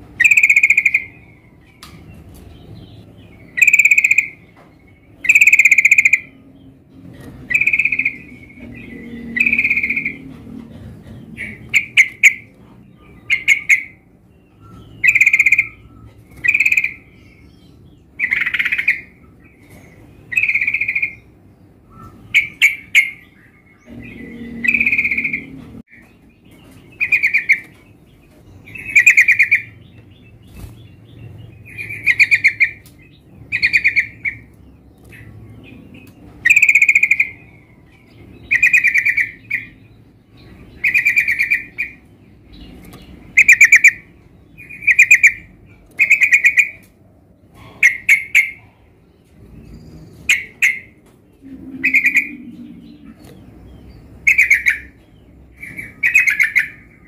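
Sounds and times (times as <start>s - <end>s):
bulbul singing chattering phrases: 0.0s - 37.8s, 38.4s - 57.0s.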